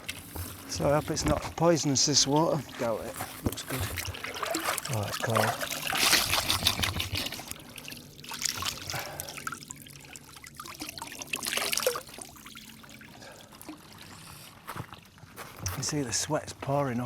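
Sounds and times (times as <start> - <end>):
water trickling and splashing: 0.0 - 16.4.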